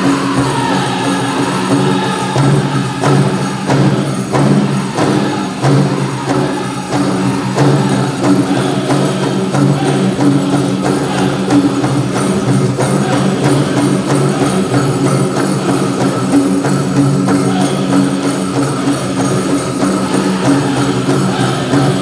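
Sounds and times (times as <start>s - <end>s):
group singing in unison: 0.0s - 22.0s
leg bells jingling: 0.0s - 22.0s
steady drumbeat: 0.0s - 22.0s.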